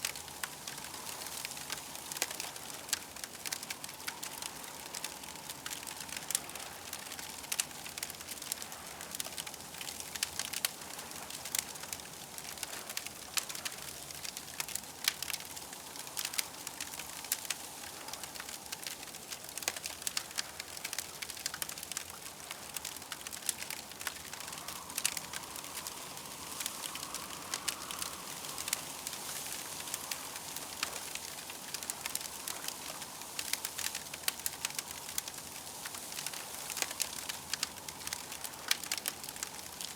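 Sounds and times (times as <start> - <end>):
campfire crackling and popping: 0.0 - 39.9
soft fire hiss: 0.0 - 39.9.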